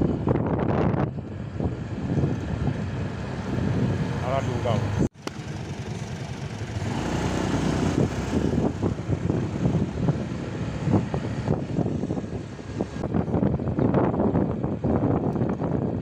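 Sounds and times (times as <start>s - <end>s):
faint engine hum: 0.0s - 16.0s
road rumble: 0.0s - 16.0s
wind buffeting microphone: 0.0s - 16.0s.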